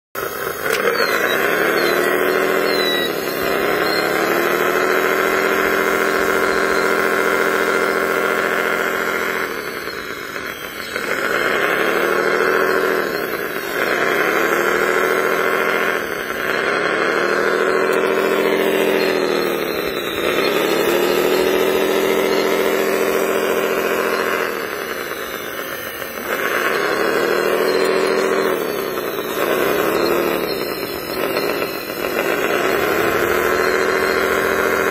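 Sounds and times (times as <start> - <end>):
wheel loader mechanical drone: 0.2 - 34.9.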